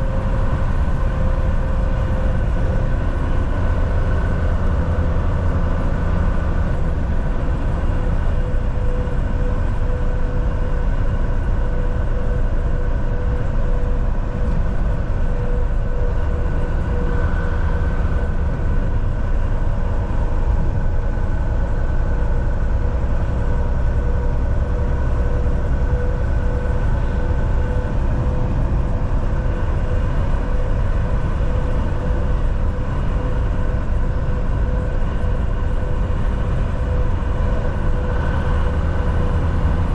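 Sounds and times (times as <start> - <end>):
mid-pitched whine: 0.0 - 39.9
road noise: 0.0 - 39.9
truck engine drone: 0.0 - 39.9.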